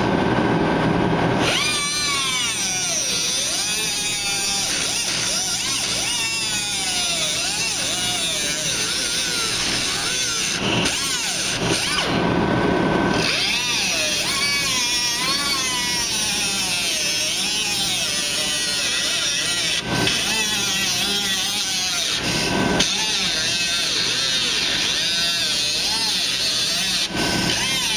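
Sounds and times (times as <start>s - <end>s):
cutoff wheel cutting metal: 1.4s - 27.9s.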